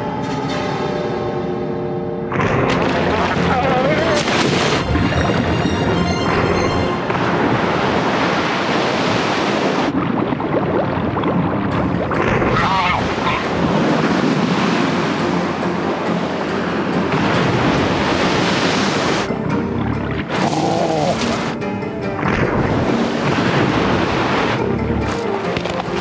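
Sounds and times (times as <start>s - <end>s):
seawater splashing and churning: 2.3s - 26.0s.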